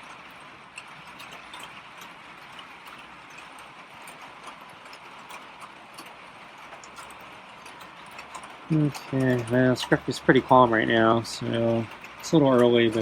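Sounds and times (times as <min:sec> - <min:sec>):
raindrops tapping: 0:00.0 - 0:13.0
steady rain falling: 0:00.0 - 0:13.0.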